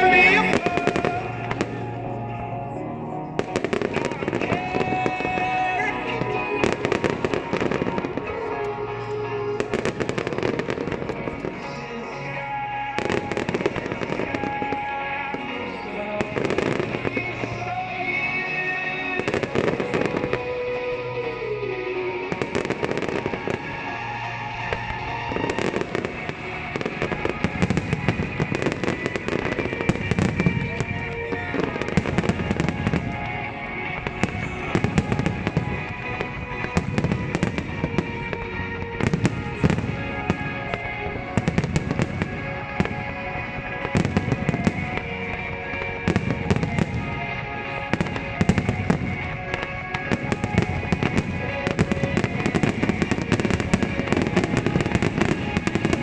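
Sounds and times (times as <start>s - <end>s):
fireworks bursting and crackling: 0.0s - 56.0s
music soundtrack: 0.0s - 56.0s.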